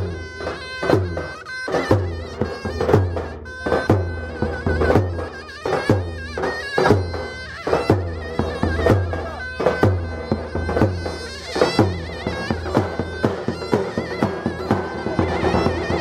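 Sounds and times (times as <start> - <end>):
zurna playing folk dance tune: 0.0 - 16.0.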